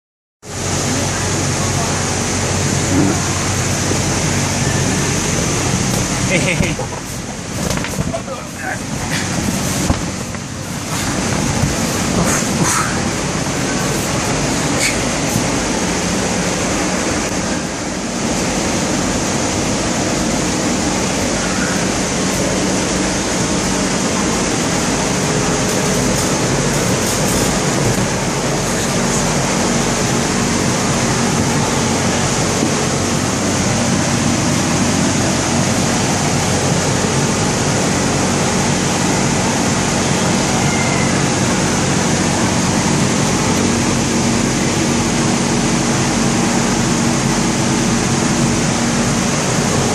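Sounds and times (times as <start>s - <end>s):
blower fan rushing air: 0.4s - 49.9s.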